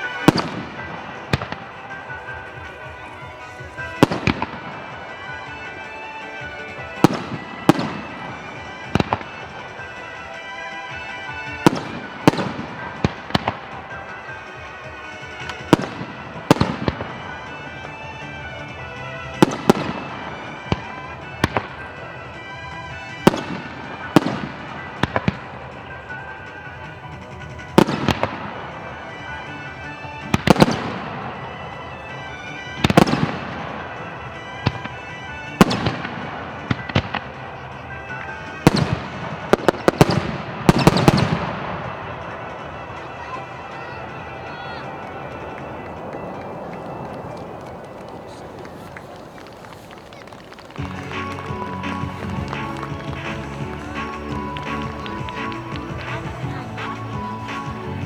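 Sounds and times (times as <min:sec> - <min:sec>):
background music: 0:00.0 - 0:58.0
fireworks bursting with bangs: 0:00.0 - 0:58.0.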